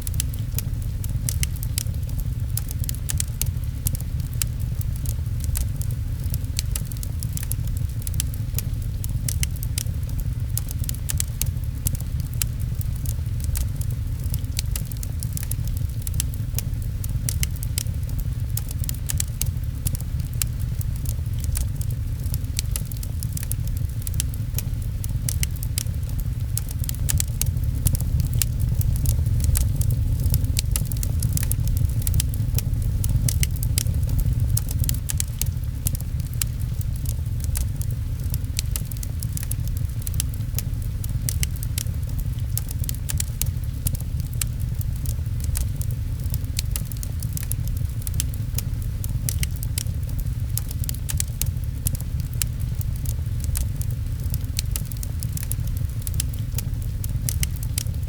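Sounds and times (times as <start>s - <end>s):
fireplace fire crackling: 0.0s - 58.0s
rain pattering: 0.0s - 58.0s.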